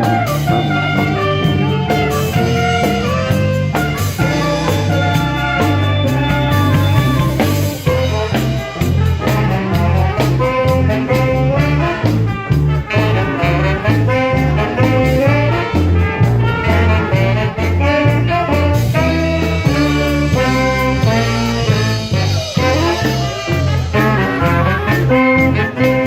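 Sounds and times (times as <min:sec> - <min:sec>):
brass band playing swing tune: 0:00.0 - 0:26.0
pulsing bass line: 0:00.0 - 0:26.0.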